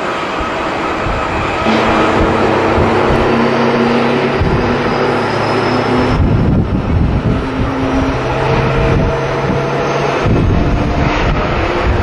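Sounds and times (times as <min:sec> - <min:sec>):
jet engine whine: 0:00.0 - 0:12.0
low rumble: 0:00.4 - 0:12.0.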